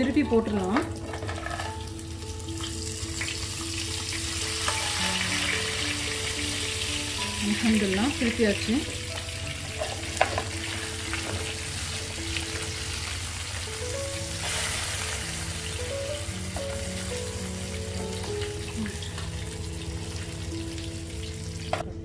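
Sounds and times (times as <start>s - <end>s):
fish sizzling in a frying pan: 0.0s - 21.8s
music of held notes: 0.0s - 22.0s.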